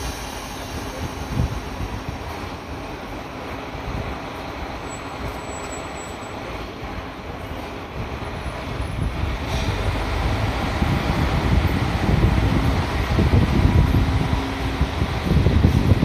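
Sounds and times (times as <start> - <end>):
diesel railcar engine rumbling: 0.0 - 16.0.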